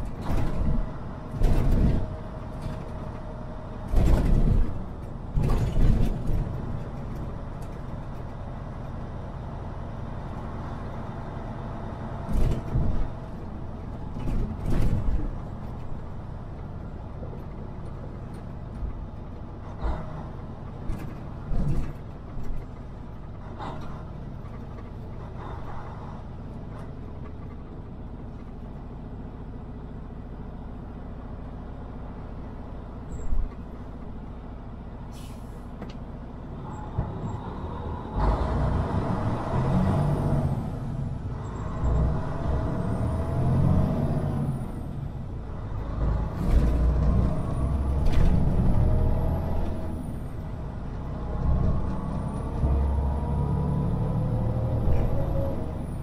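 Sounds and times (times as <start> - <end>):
truck engine and road drone: 0.0 - 56.0.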